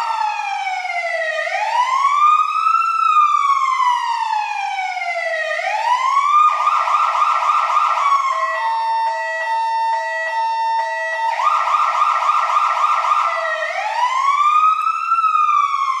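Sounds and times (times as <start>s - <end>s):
fire truck siren: 0.0s - 16.0s.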